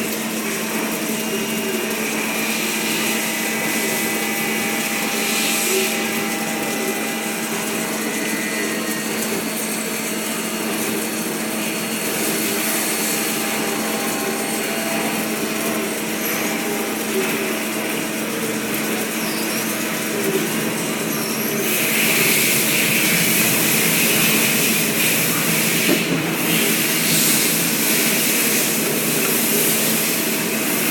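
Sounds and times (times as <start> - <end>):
lathe hum and whine: 0.0 - 30.9.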